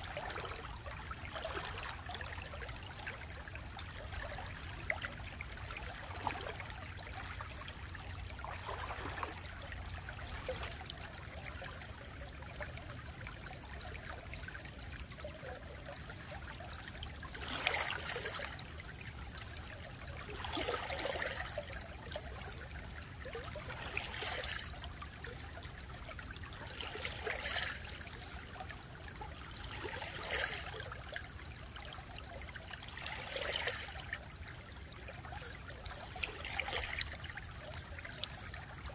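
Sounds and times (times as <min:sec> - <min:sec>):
stream flowing and gurgling: 0:00.0 - 0:38.9.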